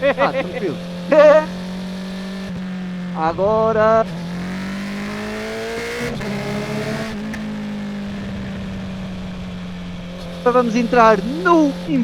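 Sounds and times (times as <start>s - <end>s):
motorcycle engine accelerating: 0.0s - 12.0s
quickshifter upshifts: 0.0s - 12.0s.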